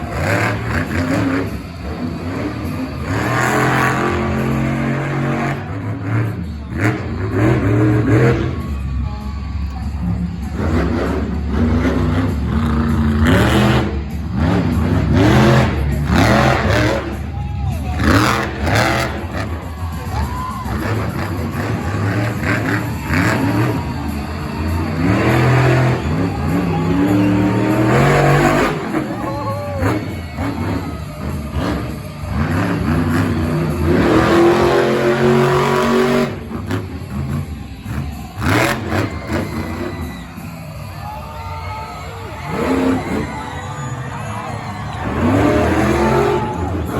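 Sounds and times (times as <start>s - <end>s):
truck engine revving hard: 0.0s - 9.0s, 9.7s - 41.0s, 42.1s - 46.9s.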